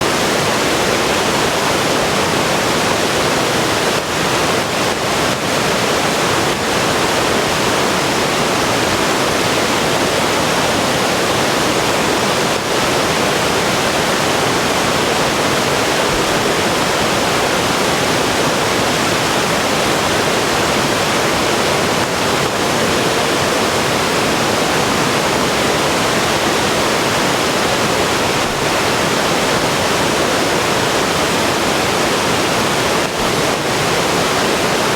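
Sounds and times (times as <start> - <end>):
river rushing over rapids: 0.0 - 34.9.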